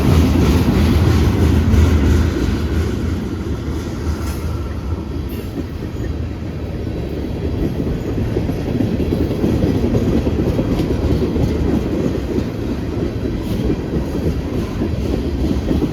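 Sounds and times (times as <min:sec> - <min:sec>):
freight train wheels rumbling on rails: 0:00.0 - 0:15.9.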